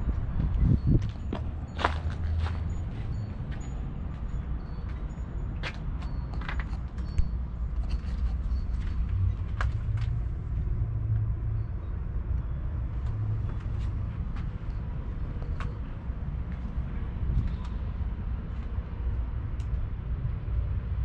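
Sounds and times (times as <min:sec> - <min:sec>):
outdoor background rumble: 0:00.0 - 0:21.0.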